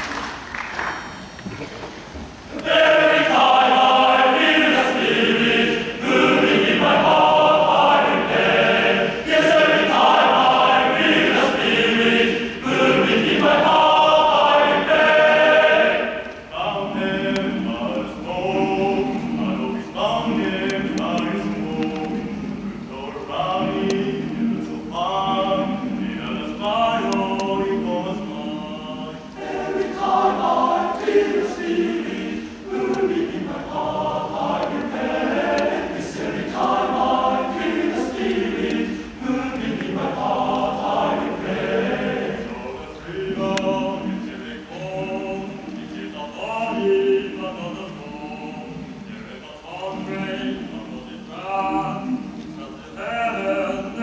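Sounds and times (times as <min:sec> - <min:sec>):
male choir singing gospel: 0:02.5 - 0:54.0.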